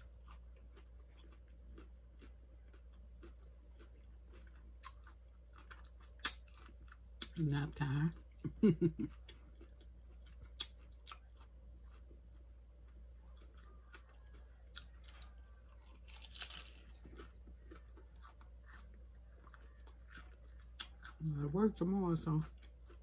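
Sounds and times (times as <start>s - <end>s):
crunching taco: 0.0s - 23.0s.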